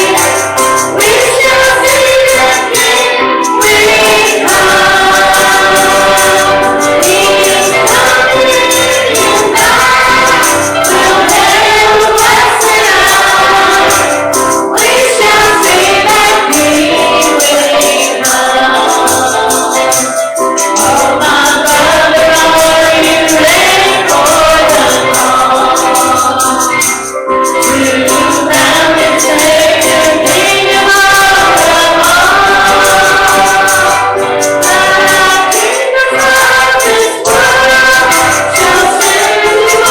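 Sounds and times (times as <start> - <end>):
congregation singing a hymn: 0.0 - 39.9
tambourine shaking: 0.0 - 39.9.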